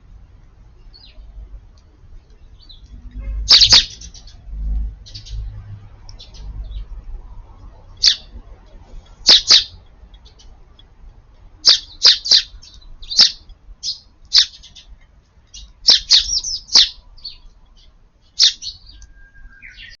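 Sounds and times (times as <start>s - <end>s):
sparrows chirping: 0.6s - 10.8s, 11.4s - 20.0s.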